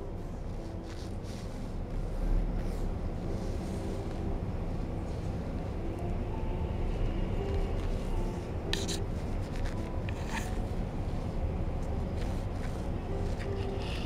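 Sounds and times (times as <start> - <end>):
soft rustling scrapes: 0.0 - 5.9, 7.3 - 14.0
low room rumble: 0.0 - 14.0.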